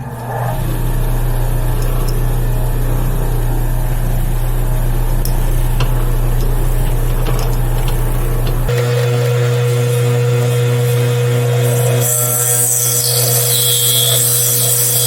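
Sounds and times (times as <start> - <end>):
lathe motor humming: 0.0 - 15.0
drill bit boring into acrylic: 0.3 - 15.0.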